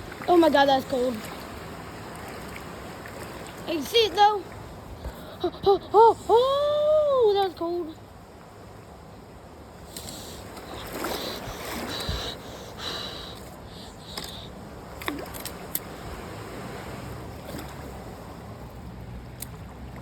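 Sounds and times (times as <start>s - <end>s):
water sloshing around wading legs: 0.0s - 6.0s, 9.7s - 20.0s
flowing stream rushing: 0.0s - 20.0s.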